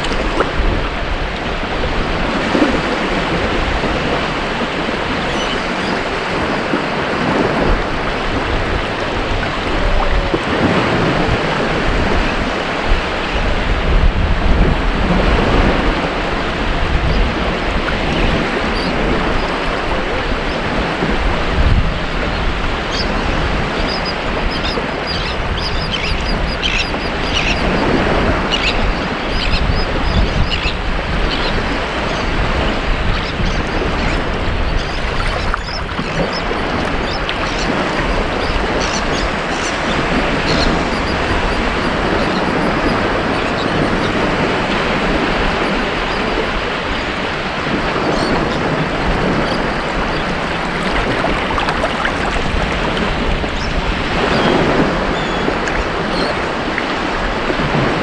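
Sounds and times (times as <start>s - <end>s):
ocean waves breaking on a beach: 0.0s - 58.0s.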